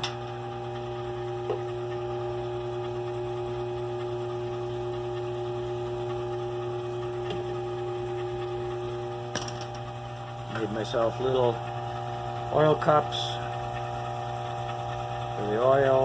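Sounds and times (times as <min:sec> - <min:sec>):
lathe motor humming: 0:00.0 - 0:16.0.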